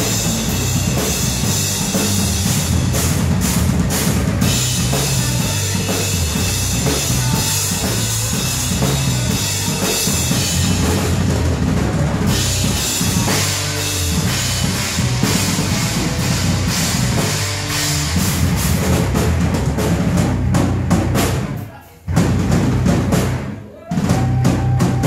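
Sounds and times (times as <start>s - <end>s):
drum kit: 0.0s - 25.0s.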